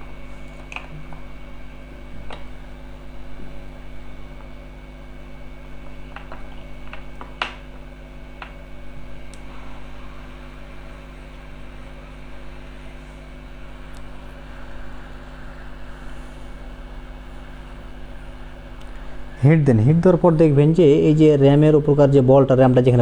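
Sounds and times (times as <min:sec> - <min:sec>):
electrical hum: 0:00.0 - 0:23.0
fan noise: 0:00.0 - 0:23.0.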